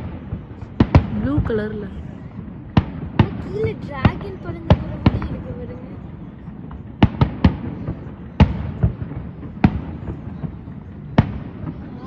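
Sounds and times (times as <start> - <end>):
distant firework booms: 0.0 - 12.0.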